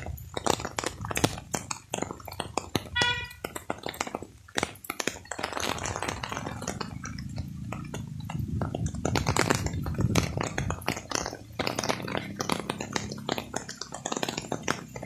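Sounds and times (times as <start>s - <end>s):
rain on a fabric umbrella: 0.0s - 15.0s.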